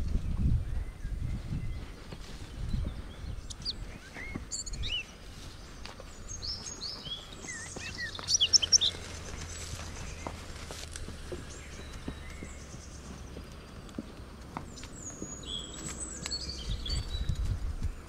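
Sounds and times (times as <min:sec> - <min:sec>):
small birds chirping: 0:00.0 - 0:18.0
wind rumble on microphone: 0:00.0 - 0:18.0.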